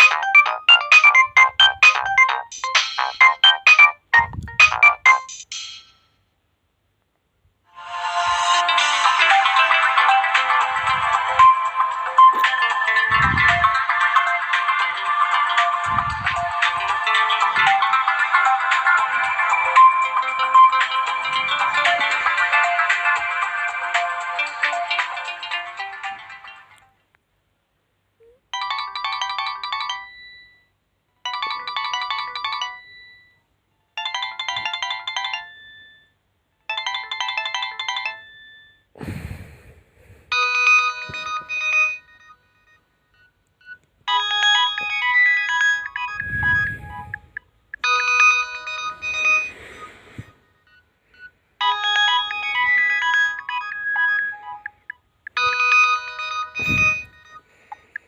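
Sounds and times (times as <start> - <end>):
mobile phone ringtone: 0.0 - 5.5, 7.8 - 26.7, 28.6 - 33.4, 34.0 - 38.9, 40.3 - 58.0.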